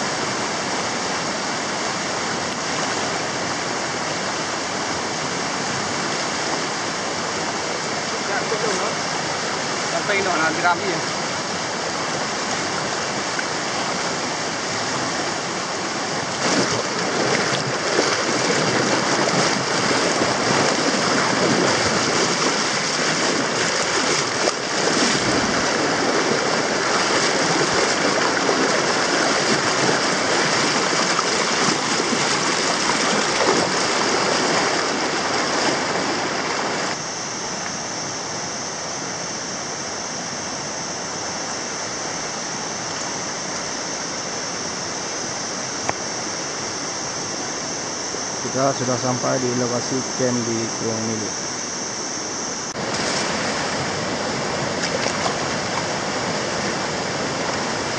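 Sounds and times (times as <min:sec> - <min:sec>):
river rushing over rapids: 0:00.0 - 0:57.9.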